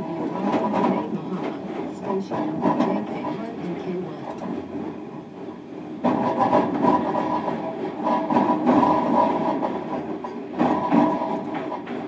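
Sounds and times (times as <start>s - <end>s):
wheel and rail rumble: 0.0s - 12.0s.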